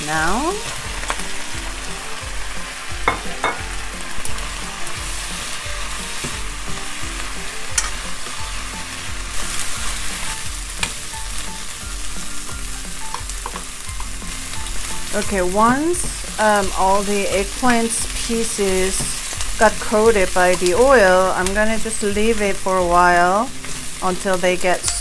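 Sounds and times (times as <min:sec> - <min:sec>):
vegetables sizzling in hot oil: 0:00.0 - 0:25.0.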